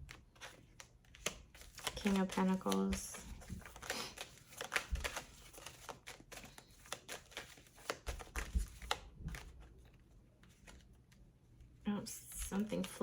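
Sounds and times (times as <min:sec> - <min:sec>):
cards shuffled by hand: 0:00.1 - 0:11.2.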